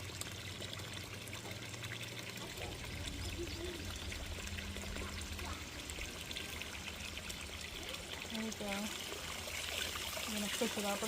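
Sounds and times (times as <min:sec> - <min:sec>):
fountain water splashing into pot: 0:00.0 - 0:11.0.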